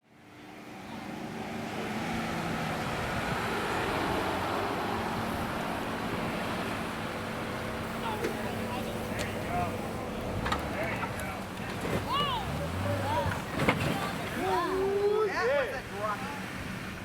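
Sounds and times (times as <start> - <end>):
vehicle engine hum: 0.0 - 17.0
tyre and road noise: 0.1 - 17.0.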